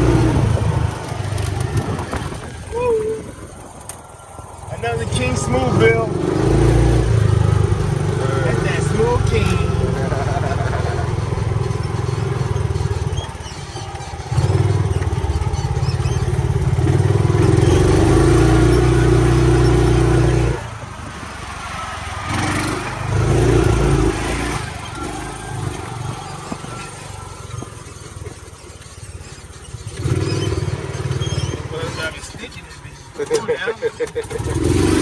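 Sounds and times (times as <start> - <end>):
small engine revving: 0.0 - 3.3, 4.8 - 35.0.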